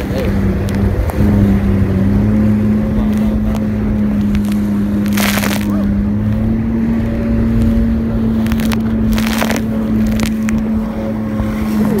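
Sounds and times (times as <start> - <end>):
jet ski engine running: 0.0 - 12.0
water splashing: 0.0 - 12.0.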